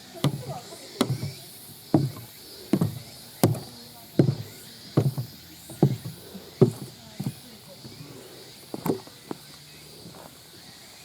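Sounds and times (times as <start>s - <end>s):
footsteps on trail: 0.2s - 10.8s.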